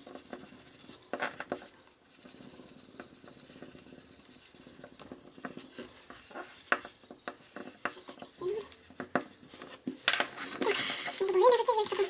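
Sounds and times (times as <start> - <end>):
stick scraping over plastic: 0.0 - 12.0.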